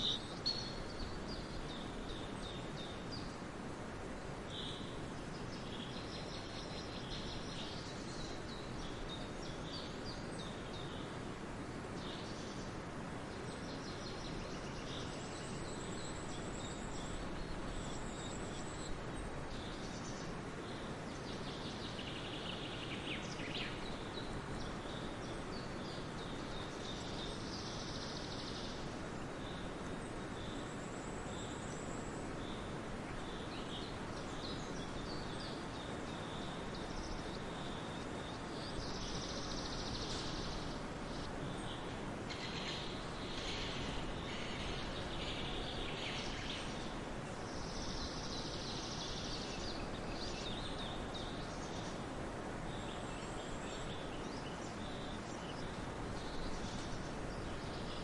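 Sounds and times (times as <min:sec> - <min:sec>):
birds singing and calling: 0:00.0 - 0:03.5, 0:13.4 - 0:58.0.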